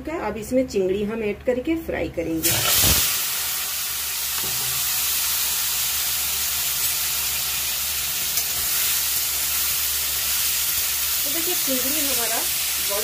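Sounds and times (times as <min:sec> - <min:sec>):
prawns sizzling in hot oil: 0:02.4 - 0:13.0.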